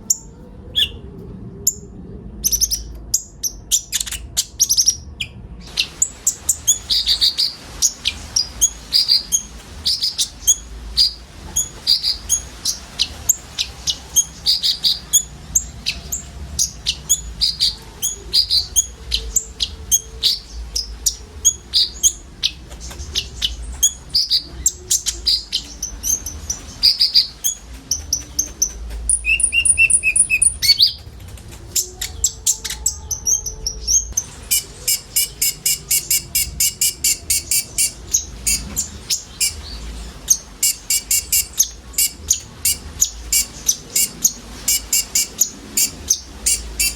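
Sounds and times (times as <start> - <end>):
sunbirds chirping and singing: 0.0 - 46.9.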